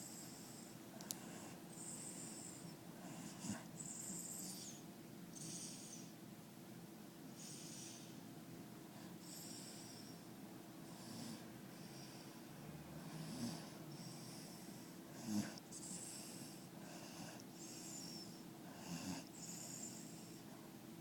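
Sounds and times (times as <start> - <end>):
dog snoring: 0.0 - 6.1, 7.4 - 8.1, 9.0 - 10.2, 10.8 - 20.4.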